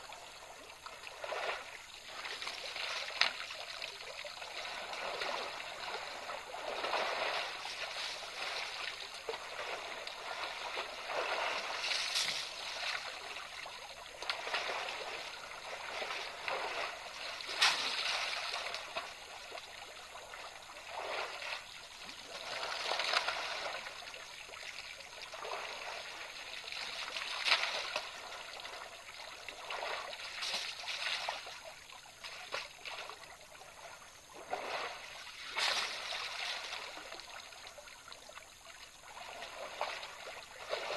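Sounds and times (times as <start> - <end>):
water sloshing and trickling: 0.0 - 40.9
elephants splashing: 1.1 - 24.2, 25.0 - 33.3, 34.4 - 37.2, 38.5 - 40.9.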